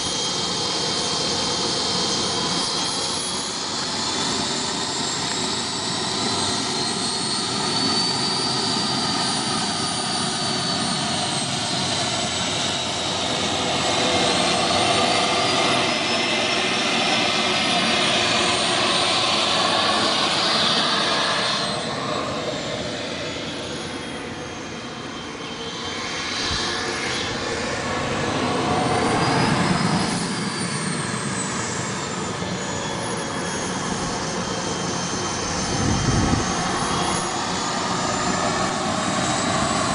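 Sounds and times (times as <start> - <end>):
model jet turbine roaring: 0.0 - 39.9.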